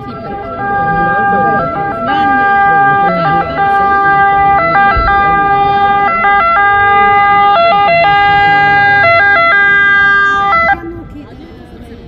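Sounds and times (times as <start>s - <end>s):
two-tone ambulance siren: 0.0s - 11.0s.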